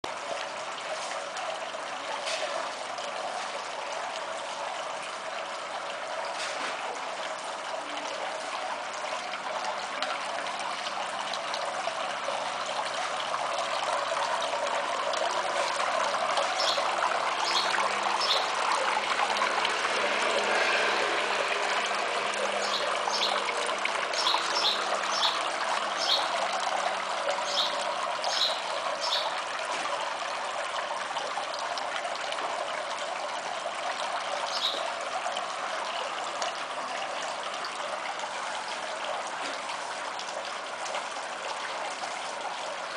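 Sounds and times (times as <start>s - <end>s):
fountain water trickling: 0.0s - 42.9s.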